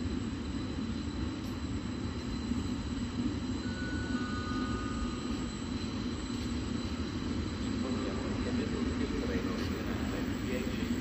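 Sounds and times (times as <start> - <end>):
train wheels rumbling on track: 1.2 - 11.0.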